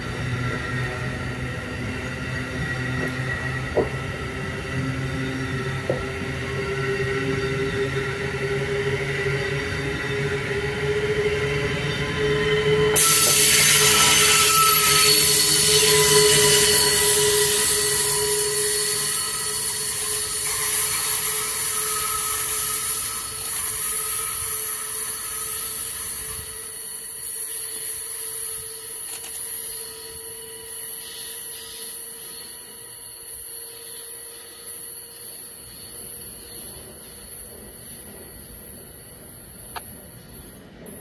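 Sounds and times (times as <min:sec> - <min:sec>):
electric train whine: 0:00.0 - 0:41.0
wheel-on-rail noise: 0:00.0 - 0:41.0.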